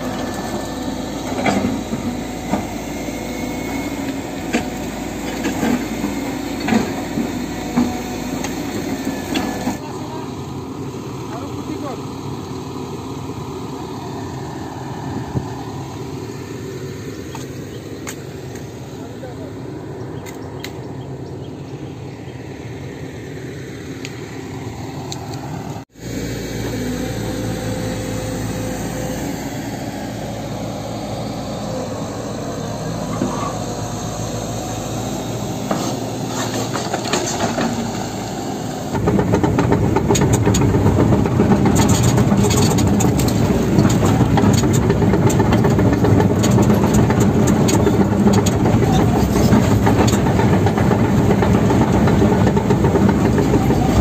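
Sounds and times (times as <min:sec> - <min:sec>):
excavator diesel engine digging: 0:00.0 - 0:21.0, 0:22.7 - 0:54.0
heavy machine engine from cab: 0:00.0 - 0:54.0.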